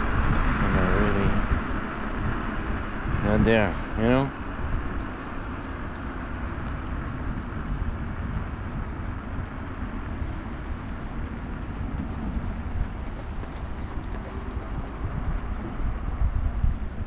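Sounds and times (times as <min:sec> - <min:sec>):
scooter tyre rumble: 0:00.0 - 0:17.0
wind rushing: 0:00.0 - 0:17.0.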